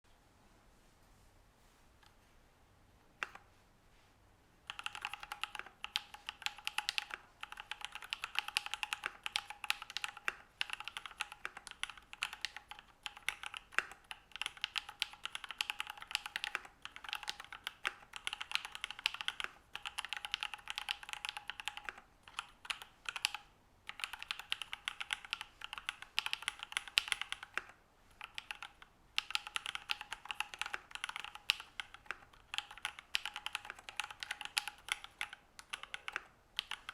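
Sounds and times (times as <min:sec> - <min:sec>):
mechanical keyboard typing: 0:04.7 - 0:36.9.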